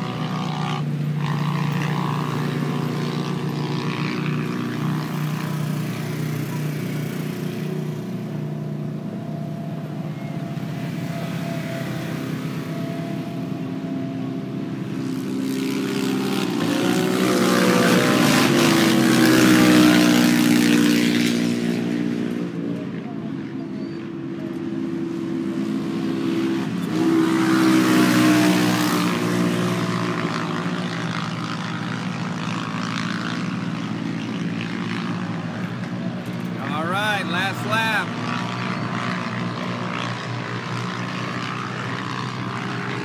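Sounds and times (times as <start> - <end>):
race engines passing: 0.0 - 43.0.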